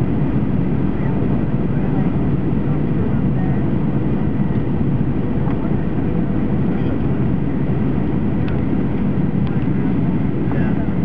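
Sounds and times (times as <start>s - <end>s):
jet engine rumble: 0.0s - 11.0s
rushing airflow: 0.0s - 11.0s.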